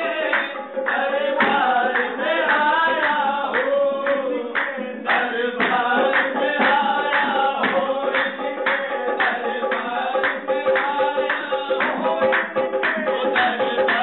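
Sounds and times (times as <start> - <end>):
steady percussive beat: 0.0 - 14.0
voices singing devotional melody: 0.0 - 14.0.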